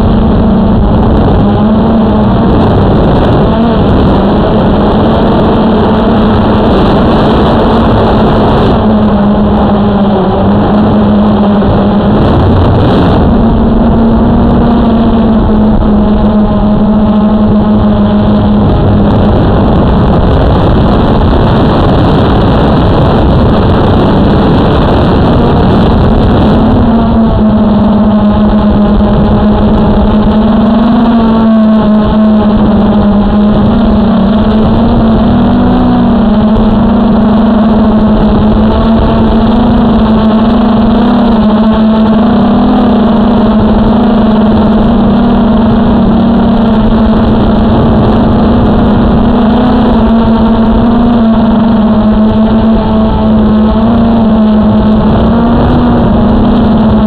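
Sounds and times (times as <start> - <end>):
drone motors buzzing: 0.0 - 57.0.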